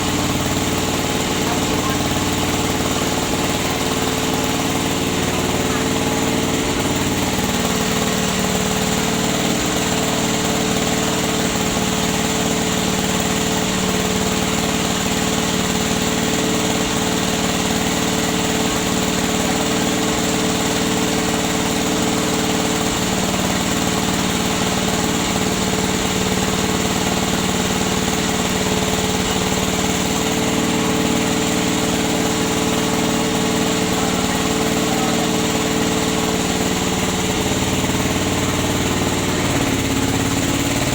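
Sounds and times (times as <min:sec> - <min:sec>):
small engine droning: 0:00.0 - 0:40.9.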